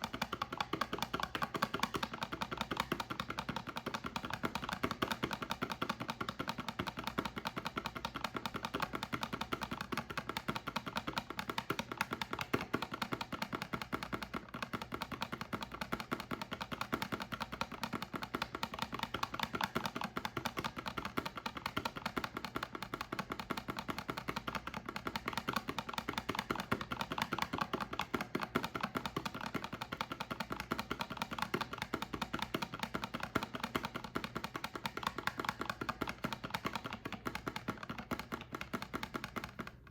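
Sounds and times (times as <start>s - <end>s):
soap clicking and tapping: 0.0s - 39.9s.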